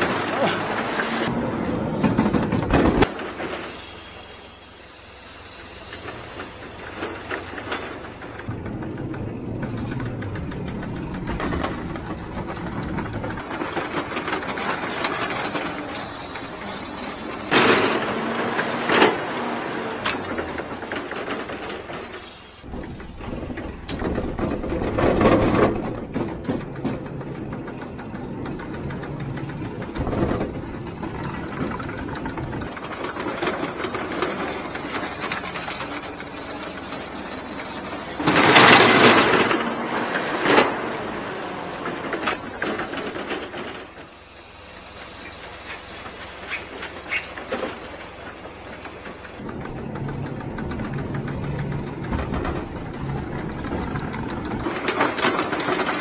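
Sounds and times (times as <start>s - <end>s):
fast mechanical rattle: 0.0s - 56.0s
truck engine and hydraulic lift: 0.0s - 56.0s.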